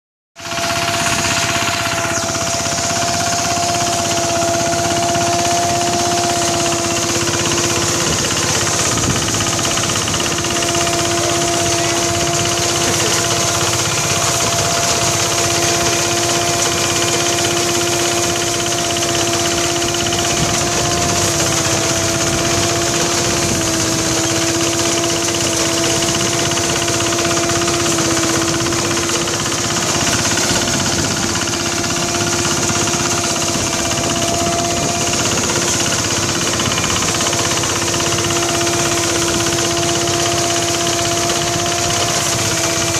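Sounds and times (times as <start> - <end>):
threshing machine droning: 0.4 - 42.9.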